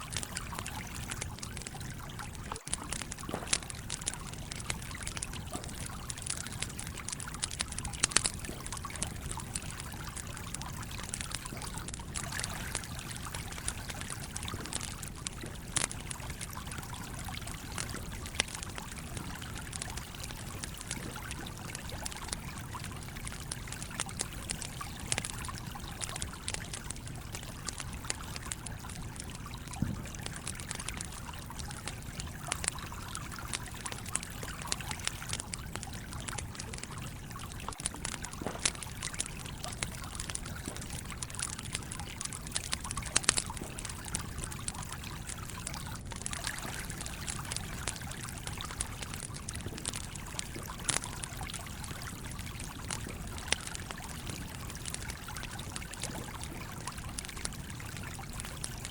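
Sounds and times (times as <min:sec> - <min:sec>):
campfire crackling: 0:00.0 - 0:58.9
stream trickling: 0:00.0 - 0:58.9.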